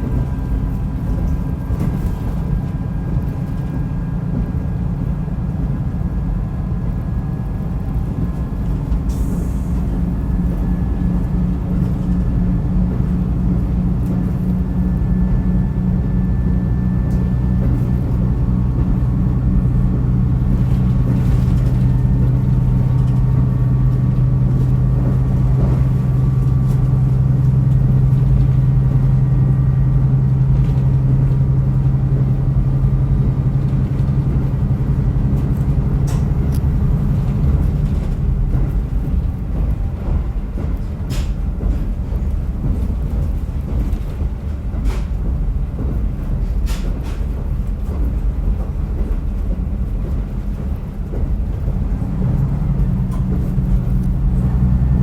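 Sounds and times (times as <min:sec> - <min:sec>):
railcar diesel engine running: 0:00.0 - 0:55.0
wheel and track rumble: 0:00.0 - 0:55.0.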